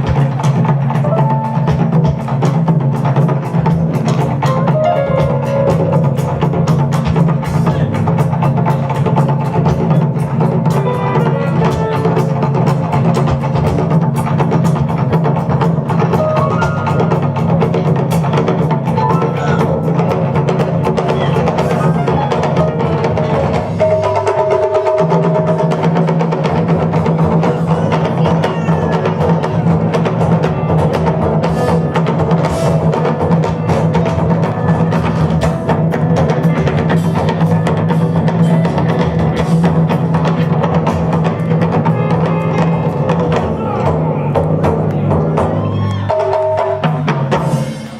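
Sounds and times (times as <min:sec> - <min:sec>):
funk band playing: 0:00.0 - 0:47.9
taiko drums: 0:00.0 - 0:47.9.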